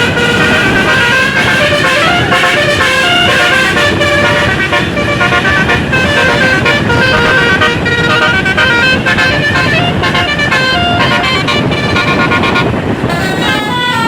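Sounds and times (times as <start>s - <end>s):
multi-tone air horns playing tune: 0.0s - 14.0s
rough background rumble: 0.0s - 14.0s.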